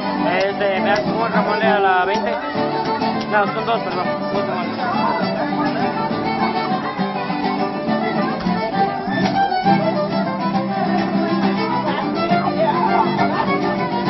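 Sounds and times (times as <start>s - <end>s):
strummed acoustic guitars: 0.0s - 14.0s
violin melody: 0.0s - 14.0s.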